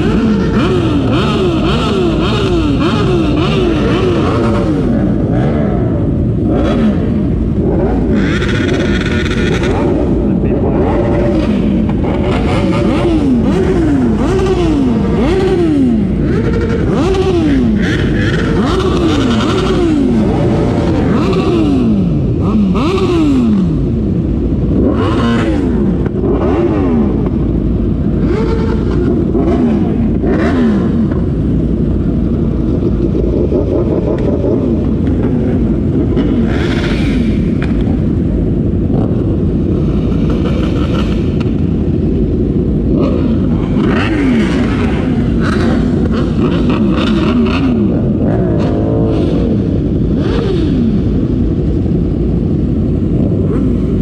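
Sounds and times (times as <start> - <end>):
motorcycle engines idling: 0.0 - 54.0.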